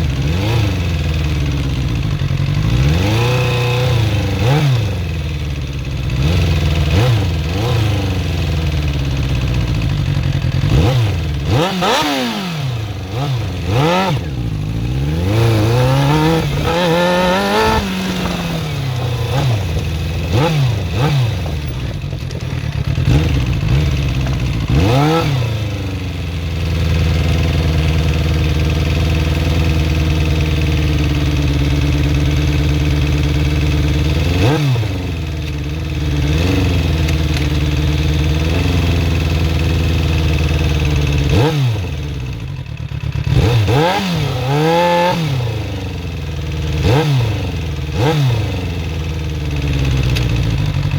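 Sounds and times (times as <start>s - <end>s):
engine ticking: 0.0s - 50.9s
motorcycle engine revving: 0.0s - 50.9s.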